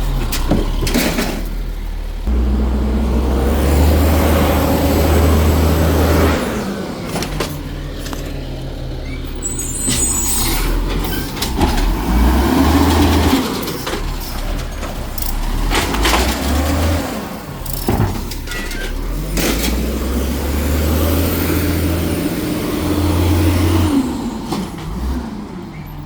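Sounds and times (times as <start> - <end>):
garbage truck diesel engine revving: 0.0 - 26.0.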